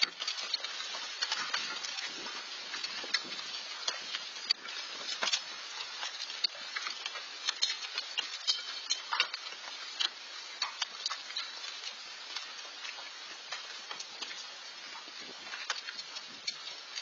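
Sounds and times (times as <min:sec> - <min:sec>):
hailstones striking ticks: 0:00.0 - 0:17.0
rain hiss: 0:00.0 - 0:17.0.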